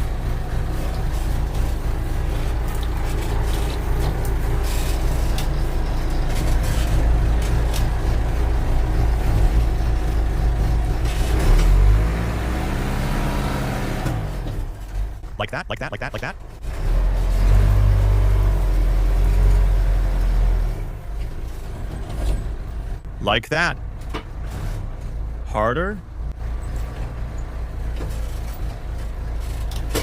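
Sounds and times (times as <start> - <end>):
backhoe engine running: 0.0 - 30.0.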